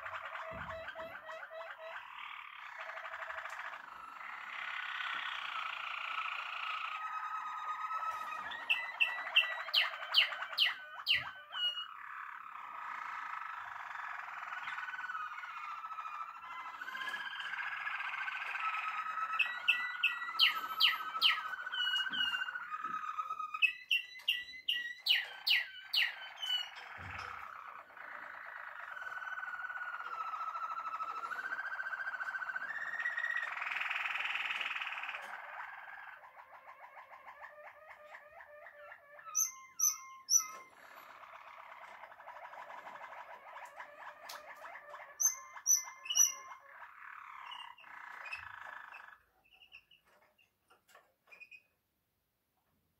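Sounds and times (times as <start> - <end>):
loud sharp repeated bird notes: 0.0 - 50.0
canaries singing: 0.0 - 51.7.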